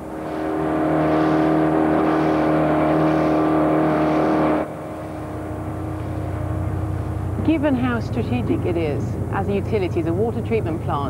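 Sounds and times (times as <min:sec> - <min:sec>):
water rushing past hull: 0:00.0 - 0:09.4
motorboat engine running fast: 0:00.0 - 0:11.0.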